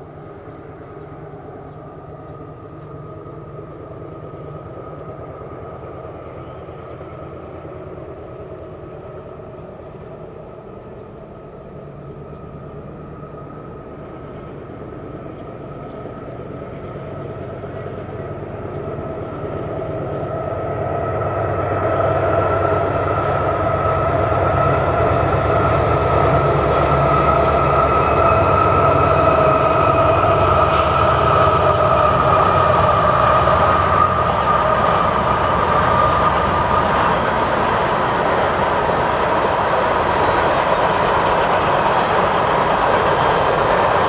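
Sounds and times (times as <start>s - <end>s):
diesel train rumbling past: 0.0s - 44.0s
steady whine: 0.0s - 44.0s.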